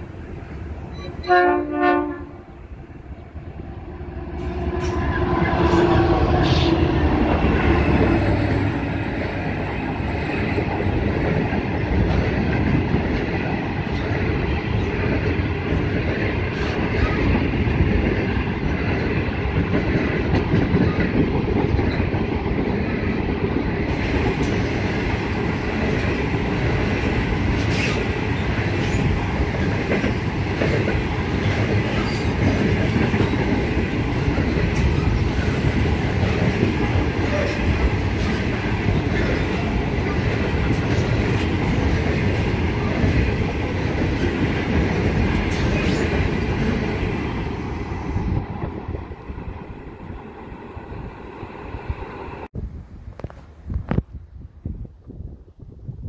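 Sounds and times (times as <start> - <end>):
diesel locomotive engine: 0.0 - 52.6.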